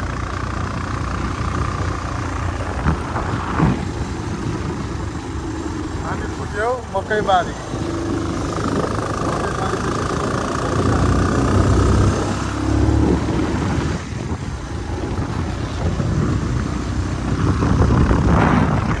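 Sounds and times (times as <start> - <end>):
motorcycle engine running: 0.0 - 19.0
rushing wind noise: 0.0 - 19.0.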